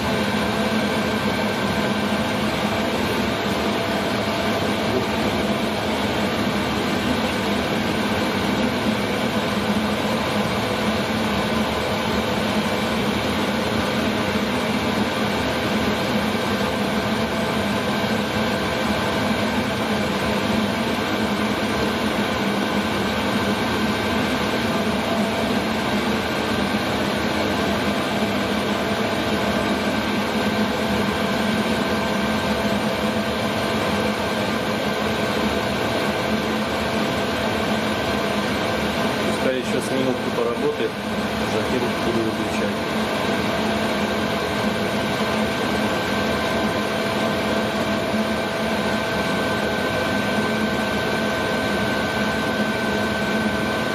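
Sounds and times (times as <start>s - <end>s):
diesel air heater running: 0.0s - 53.9s.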